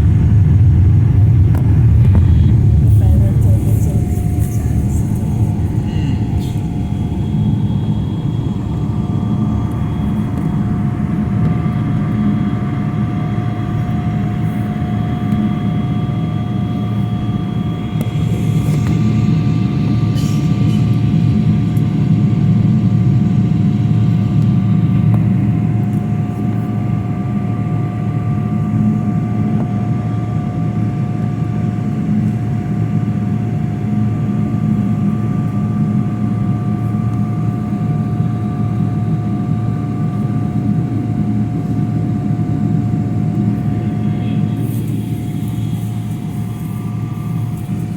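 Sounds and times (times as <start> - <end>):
steady whining tones: 0.0 - 28.9, 32.8 - 47.9
jet engines rumbling in cabin: 0.0 - 47.9.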